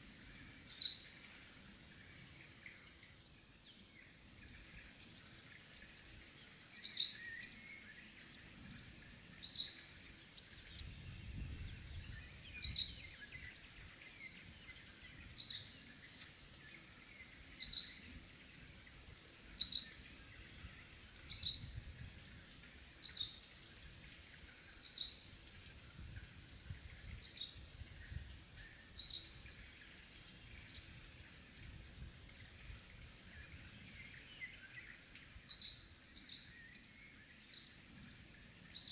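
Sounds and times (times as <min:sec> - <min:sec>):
faint high hiss: 0:00.0 - 0:38.9.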